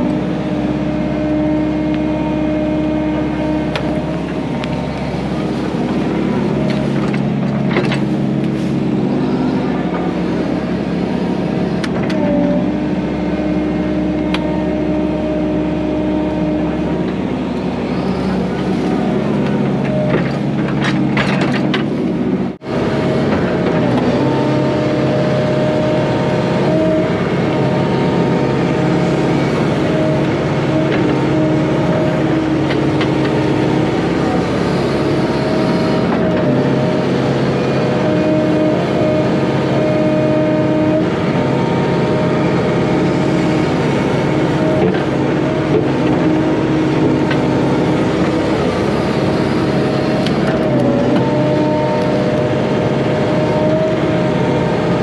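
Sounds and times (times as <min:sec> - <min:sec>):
diesel engine under load: 0:00.0 - 0:55.0
hydraulic whine: 0:00.0 - 0:55.0.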